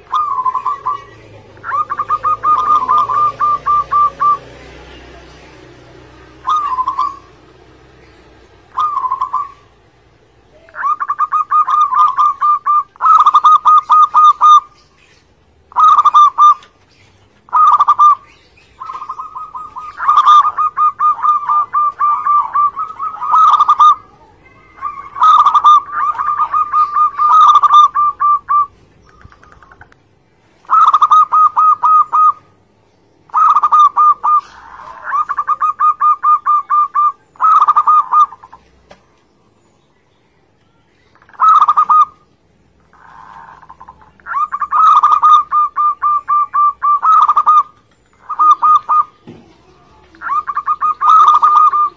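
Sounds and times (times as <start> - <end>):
dove cooing: 0.0 - 15.0, 15.6 - 30.0, 30.6 - 32.6, 33.3 - 38.8, 41.2 - 51.9.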